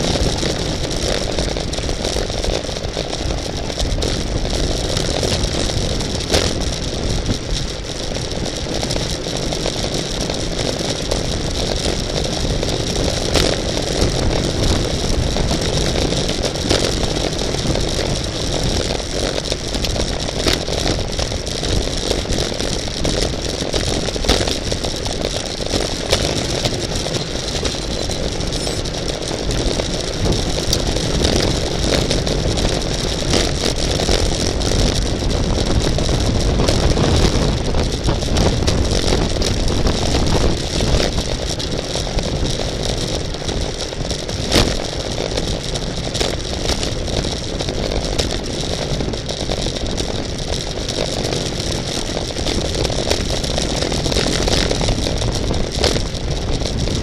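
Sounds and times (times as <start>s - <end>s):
road rumble: 0.0s - 57.0s
wind noise on microphone: 0.0s - 57.0s.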